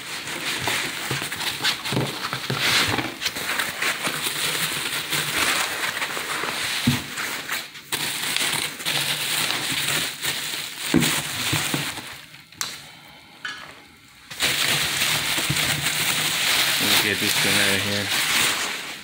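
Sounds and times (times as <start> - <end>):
bubble wrap crinkling: 0.0 - 19.0.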